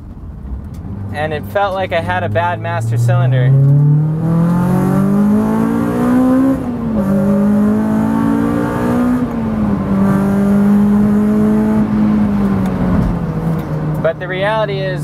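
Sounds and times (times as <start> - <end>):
car engine accelerating: 0.1 - 15.0.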